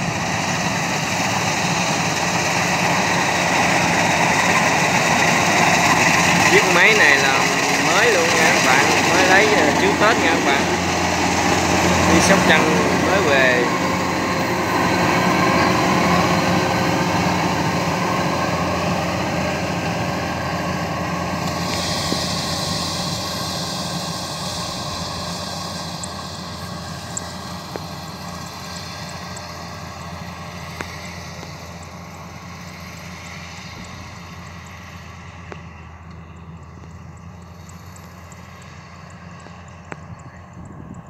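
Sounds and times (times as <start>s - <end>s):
combine harvester engine and threshing: 0.0s - 41.0s.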